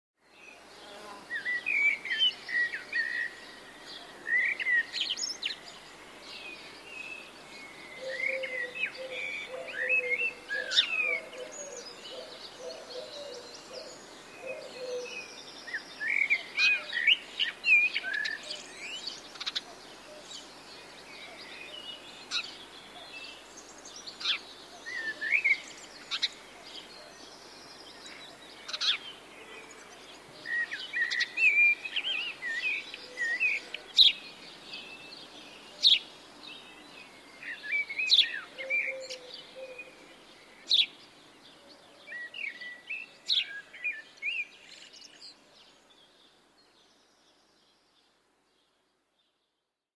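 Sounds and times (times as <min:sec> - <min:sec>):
songbirds chirping and singing: 0:00.2 - 0:49.6.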